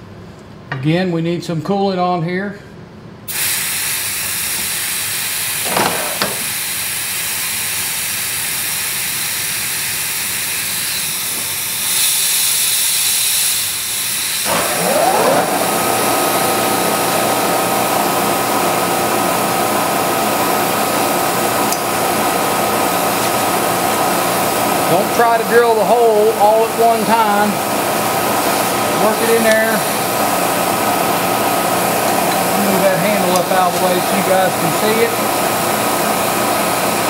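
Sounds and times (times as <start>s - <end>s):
coolant sprayer hissing: 3.3s - 37.0s.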